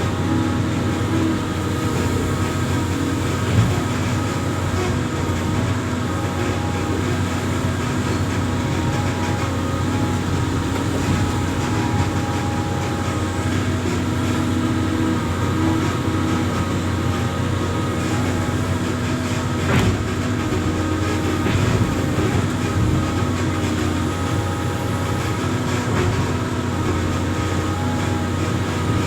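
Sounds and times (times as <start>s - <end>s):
diesel engine running under work: 0.0s - 29.0s.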